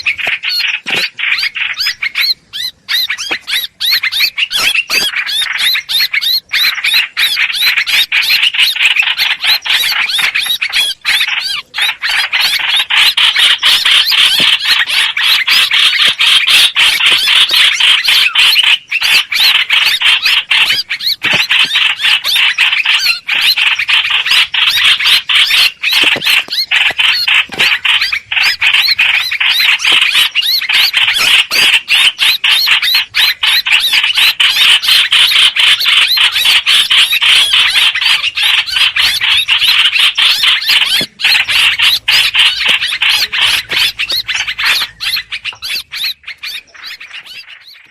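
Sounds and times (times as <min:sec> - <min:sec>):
bird rapid high chattering: 0:00.0 - 0:47.9.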